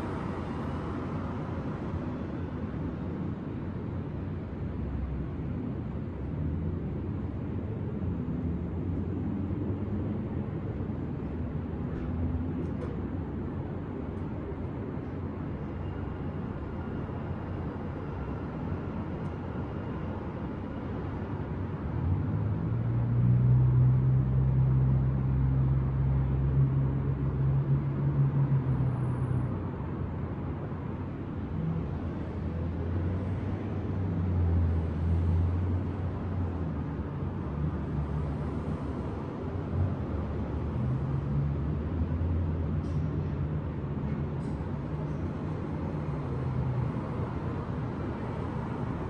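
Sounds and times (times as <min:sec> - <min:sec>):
city traffic rumble: 0:00.0 - 0:49.0.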